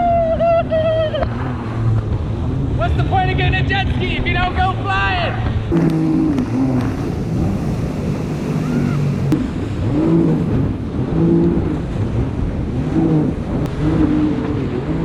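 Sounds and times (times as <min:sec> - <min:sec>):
jet ski engine running hard: 0:00.0 - 0:15.0.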